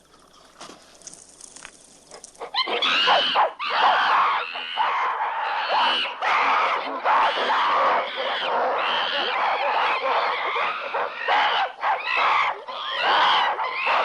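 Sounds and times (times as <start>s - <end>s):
apes screaming and hooting: 2.5s - 14.0s.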